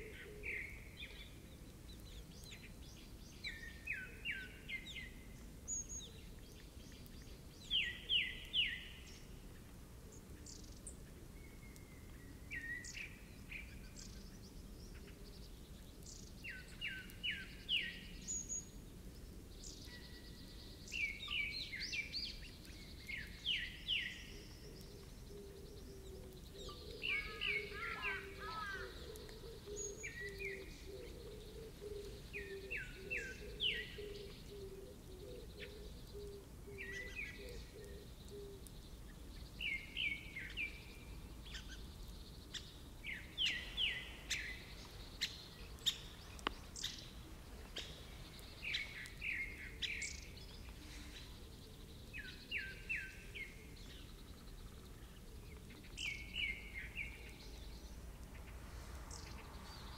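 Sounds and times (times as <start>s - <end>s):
outdoor background hiss: 0.0s - 59.9s
songbird calling: 0.0s - 59.9s.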